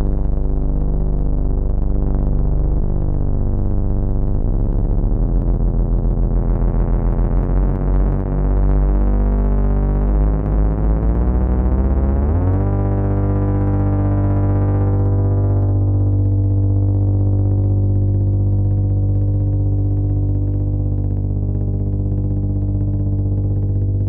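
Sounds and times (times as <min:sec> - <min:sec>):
buzzing synthesizer bass hum: 0:00.0 - 0:24.0.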